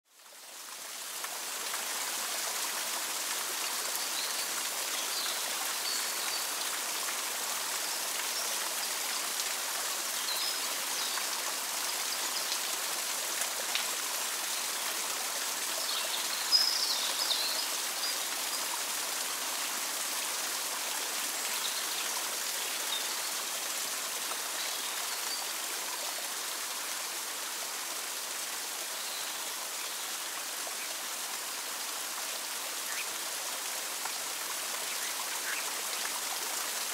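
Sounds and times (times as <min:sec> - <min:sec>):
stream and waterfall rushing: 0:00.1 - 0:36.9.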